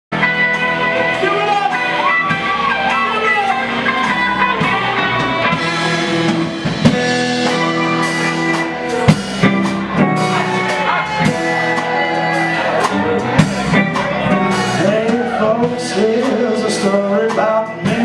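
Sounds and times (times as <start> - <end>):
punk rock band playing: 0.1 - 18.0.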